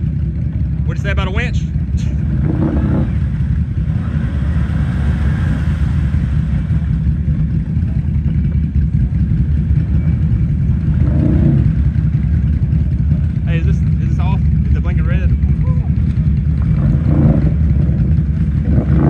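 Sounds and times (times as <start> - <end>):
atv engine droning: 0.0 - 19.0.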